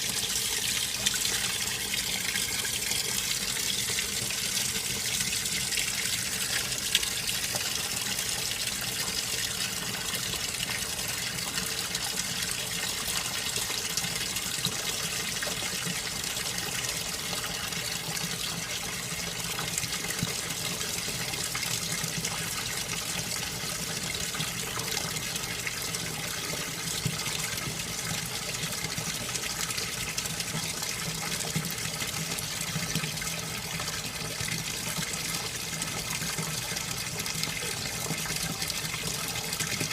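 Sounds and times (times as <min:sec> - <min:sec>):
water pouring into tub: 0:00.0 - 0:39.9.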